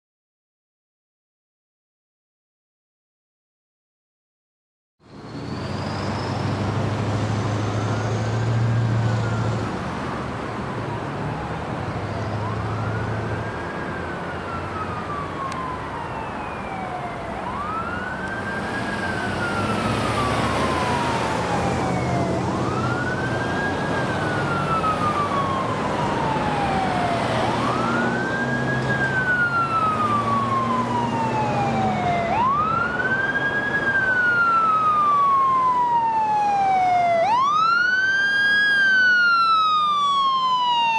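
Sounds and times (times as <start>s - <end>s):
fire engine siren wailing: 5.3s - 40.9s.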